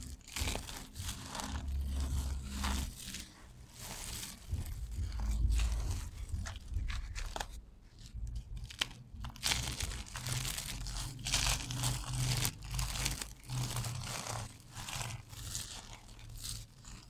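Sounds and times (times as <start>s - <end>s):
soap shavings crumbling: 0.0s - 7.6s, 8.3s - 17.0s
soap stripes crunching: 0.0s - 17.0s.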